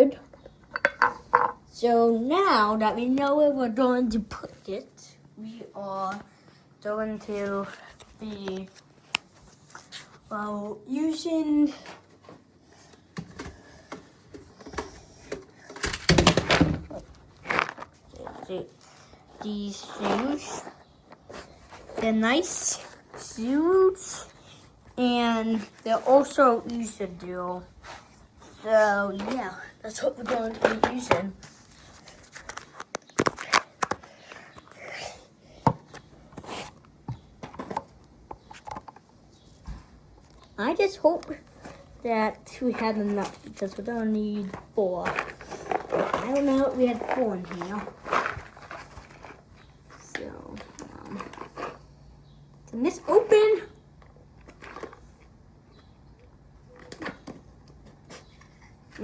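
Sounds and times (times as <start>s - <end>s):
rustling and scraping: 6.0s - 34.9s, 35.8s - 38.9s, 40.6s - 55.9s, 56.6s - 59.0s.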